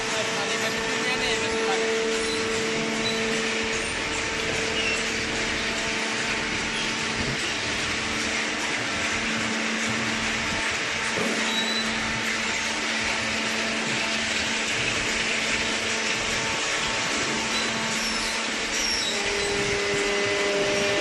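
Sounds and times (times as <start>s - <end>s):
industrial machinery whirring: 0.0s - 21.0s.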